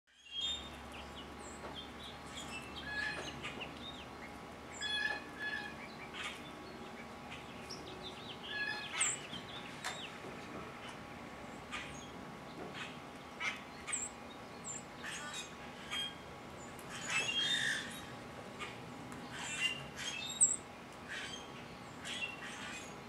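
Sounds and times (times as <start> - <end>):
birds chirping and whistling: 0.1 - 10.2, 10.8 - 23.0.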